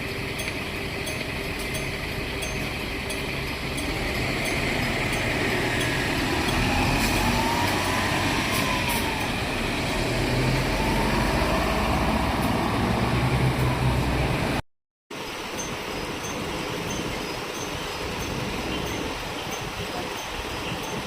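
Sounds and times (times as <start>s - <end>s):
bus engine running: 0.0s - 14.6s, 15.2s - 21.0s.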